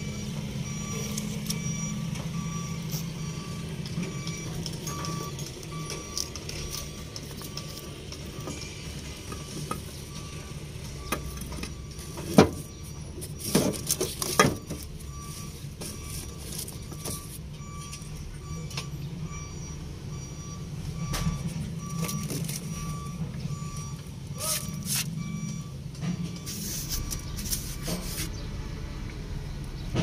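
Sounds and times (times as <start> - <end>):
low engine hum: 0.0 - 30.0
reversing beeper: 0.0 - 30.0.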